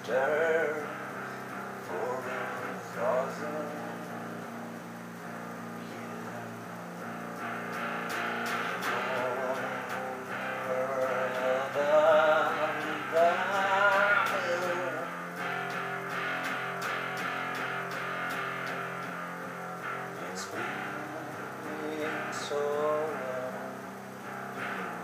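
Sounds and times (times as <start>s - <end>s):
low sustained notes: 0.0s - 24.2s
electric guitar playing: 0.0s - 25.0s.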